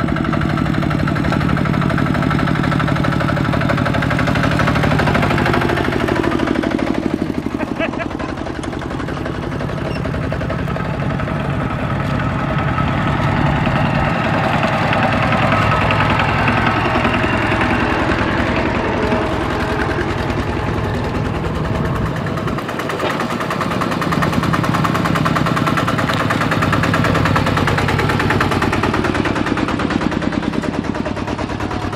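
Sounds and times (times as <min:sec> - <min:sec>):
diesel engines putt-putting: 0:00.0 - 0:31.9.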